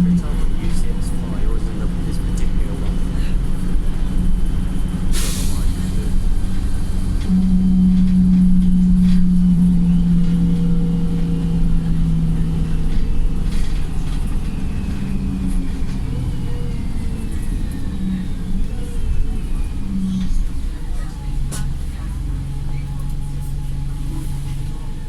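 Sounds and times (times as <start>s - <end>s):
bus diesel engine droning: 0.0s - 25.0s
low rumble: 0.0s - 25.0s.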